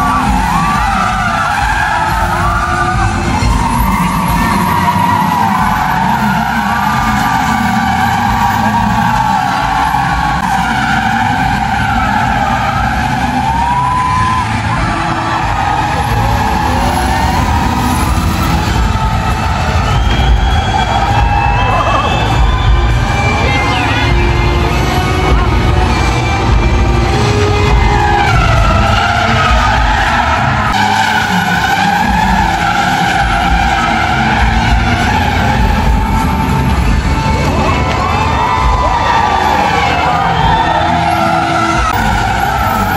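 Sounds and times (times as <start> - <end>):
car engines revving: 0.0 - 42.9
tyre squeals: 0.0 - 42.9.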